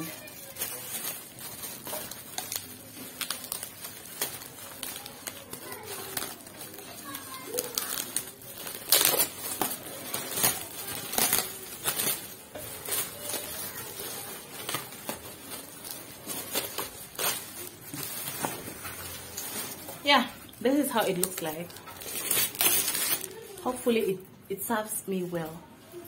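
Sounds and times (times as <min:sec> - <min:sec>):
plastic packaging rustling: 0:00.0 - 0:26.0.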